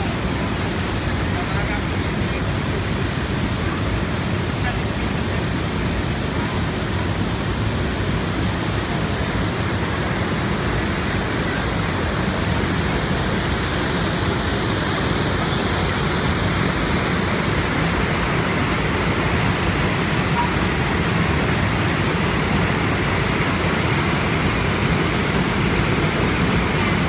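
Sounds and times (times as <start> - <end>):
whitewater rushing over falls: 0.0 - 27.0.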